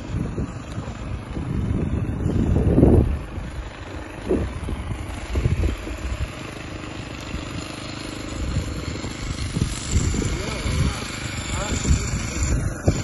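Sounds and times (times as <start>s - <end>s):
string trimmer engine idling: 0.0s - 13.0s.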